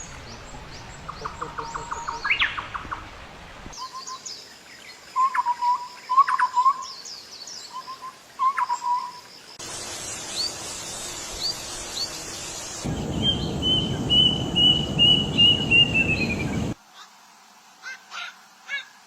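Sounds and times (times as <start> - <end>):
songbirds calling: 0.0 - 16.8
background hiss: 0.0 - 19.0.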